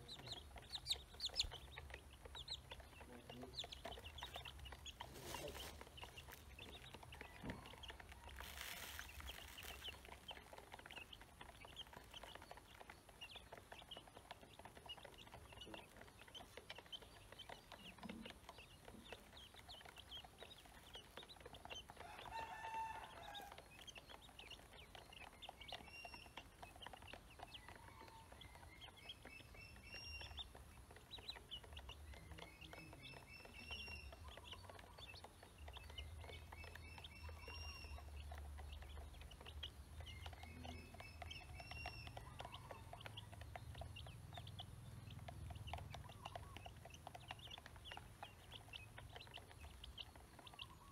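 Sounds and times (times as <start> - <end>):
ducklings peeping: 0.0 - 50.9.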